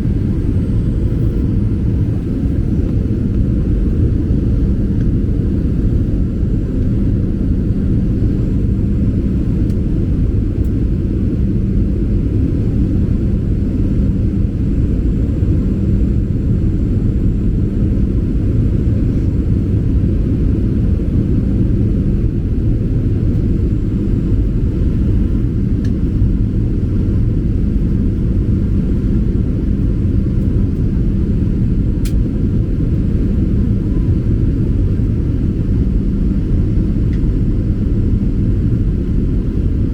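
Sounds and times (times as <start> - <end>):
faint constant hum: 0.0 - 39.9
low rumble of engines and airflow: 0.0 - 39.9.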